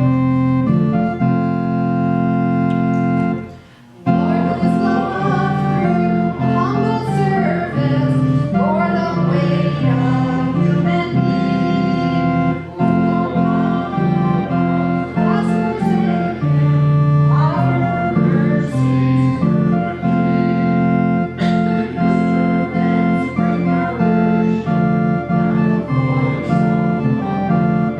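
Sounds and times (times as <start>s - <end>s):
church organ playing: 0.0s - 27.9s
congregation singing a hymn: 0.0s - 27.9s.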